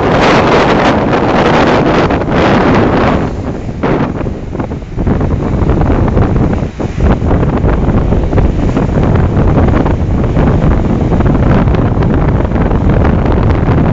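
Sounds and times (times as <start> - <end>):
surf crashing on rocks: 0.0 - 13.9
wind buffeting the microphone: 0.0 - 13.9.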